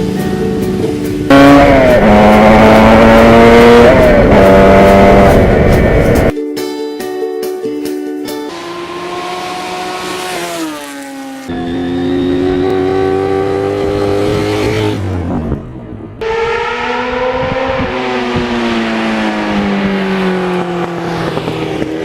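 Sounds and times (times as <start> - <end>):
motorcycle engine slowing: 0.0 - 6.4, 8.5 - 22.0.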